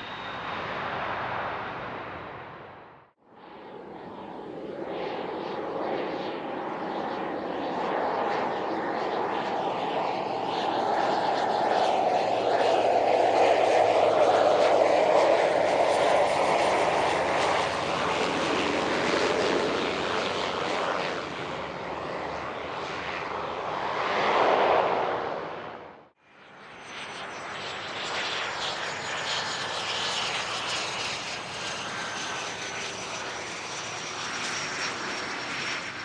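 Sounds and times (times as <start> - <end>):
aircraft engine with high whine: 0.0 - 36.0
aircraft engines roaring: 0.0 - 36.0.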